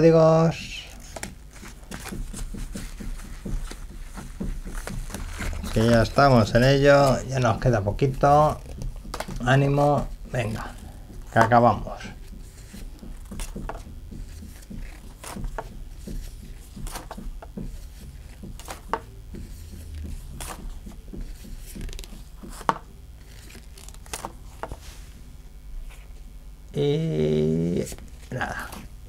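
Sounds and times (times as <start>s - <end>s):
low steady hum: 0.0s - 29.0s
cards clicking and rustling: 0.8s - 24.9s.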